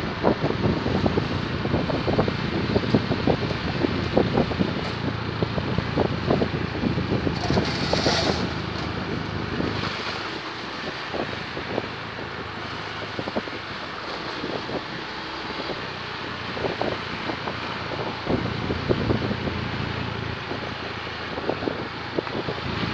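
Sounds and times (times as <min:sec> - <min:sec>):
vehicle engine running: 0:00.0 - 0:22.9
wind buffeting microphone: 0:00.0 - 0:22.9.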